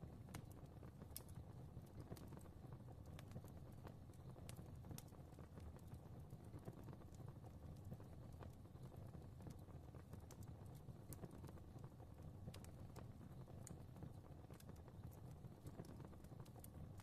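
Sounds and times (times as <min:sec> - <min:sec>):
fire crackling softly: 0:00.0 - 0:17.0.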